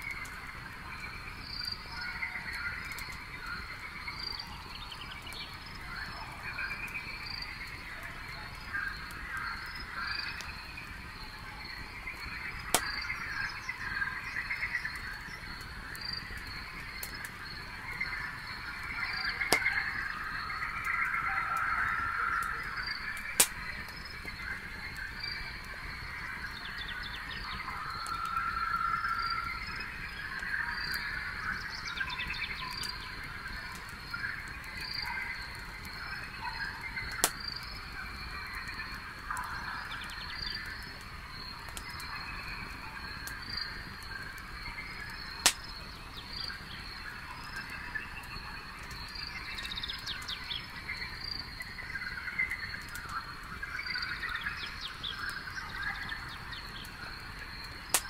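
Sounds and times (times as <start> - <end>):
campfire crackling and popping: 0.0 - 58.0
insects chirping at night: 0.0 - 58.0.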